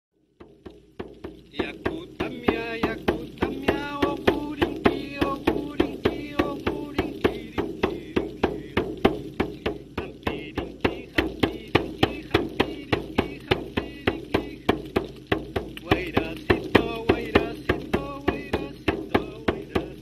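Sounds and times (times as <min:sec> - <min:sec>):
frame drum beating: 0:00.2 - 0:20.0
man chanting: 0:01.5 - 0:15.1, 0:15.7 - 0:20.0.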